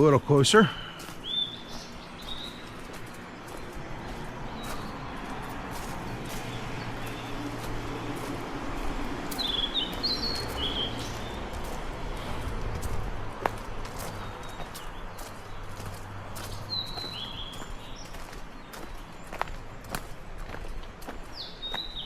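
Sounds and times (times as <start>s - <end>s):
bird chirping: 0.0s - 12.9s, 13.8s - 22.0s.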